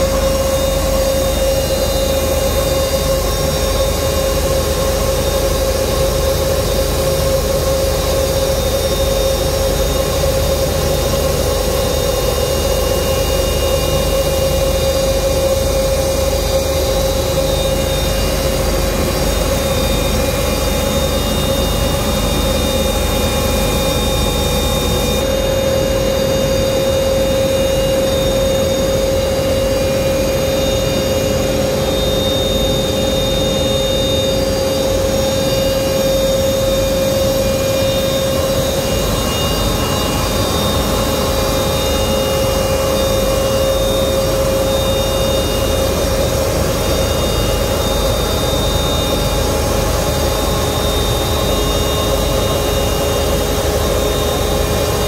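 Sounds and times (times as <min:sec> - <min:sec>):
machinery drone with whine: 0:00.0 - 0:55.0.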